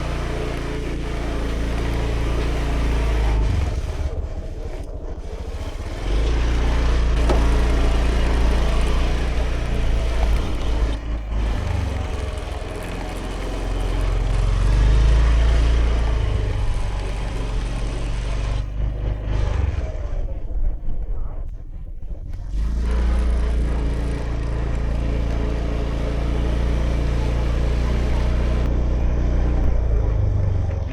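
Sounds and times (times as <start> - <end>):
scooter engine running: 0.0 - 21.4, 22.2 - 30.9
wind and road rush: 0.0 - 30.9.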